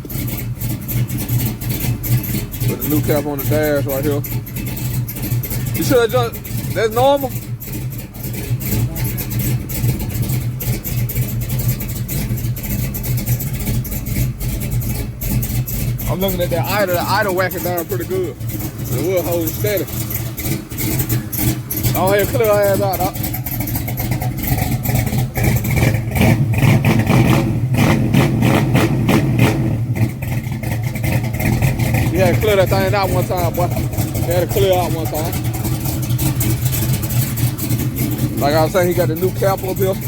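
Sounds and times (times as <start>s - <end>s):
engine idling with lopey beat: 0.0s - 40.0s.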